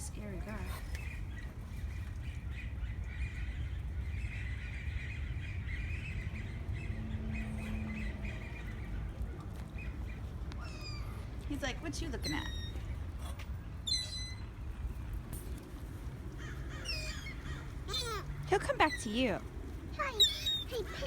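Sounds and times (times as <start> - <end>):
wind rumble on microphone: 0.0 - 20.5
birds squawking and chattering: 0.0 - 21.0.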